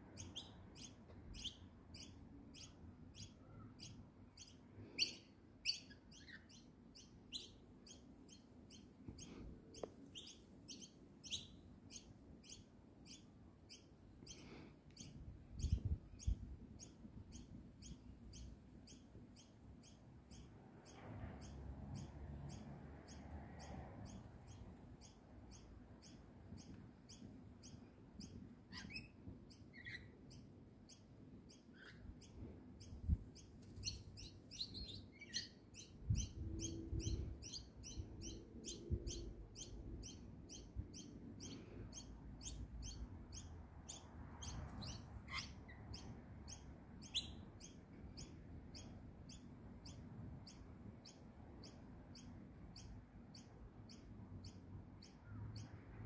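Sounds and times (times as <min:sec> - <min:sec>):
birds chirping: 0:00.1 - 0:56.0.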